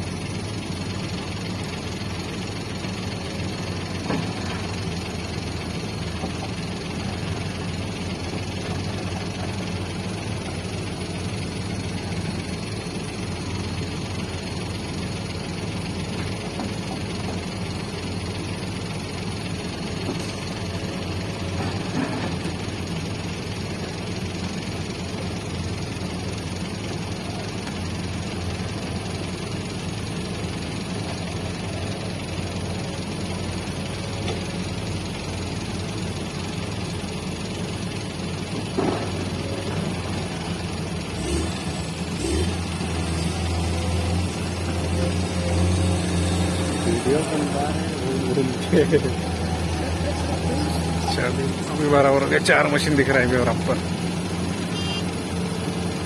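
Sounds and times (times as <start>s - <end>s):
excavator diesel engines running: 0.0s - 56.0s.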